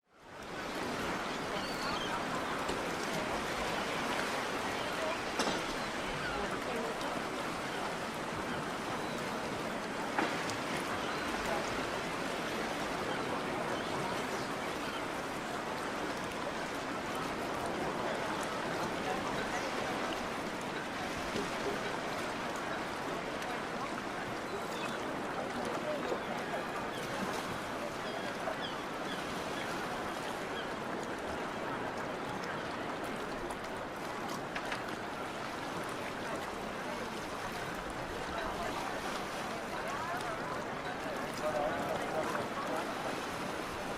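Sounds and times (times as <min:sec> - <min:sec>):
outdoor water noise: 0:00.0 - 0:43.9
faint background voices: 0:00.2 - 0:43.9.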